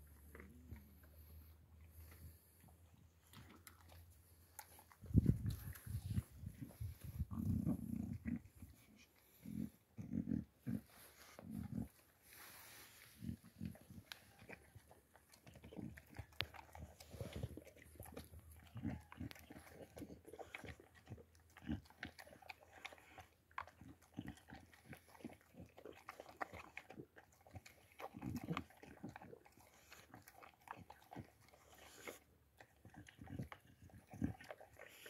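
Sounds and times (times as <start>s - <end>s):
dog chewing and crunching: 0.0s - 35.0s.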